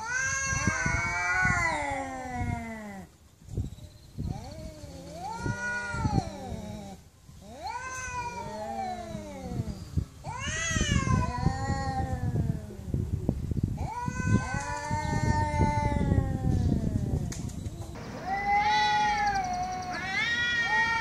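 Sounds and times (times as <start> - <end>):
cats yowling: 0.0 - 3.1, 4.3 - 12.9, 13.8 - 17.3, 18.0 - 21.0.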